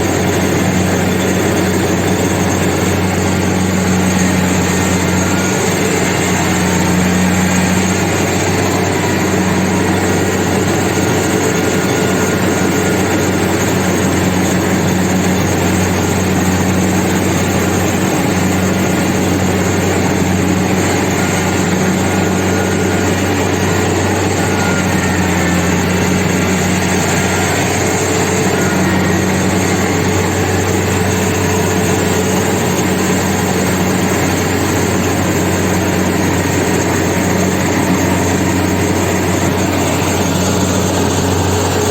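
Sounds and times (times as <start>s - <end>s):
combine harvester churning: 0.0s - 41.9s
diesel engine humming: 0.0s - 41.9s.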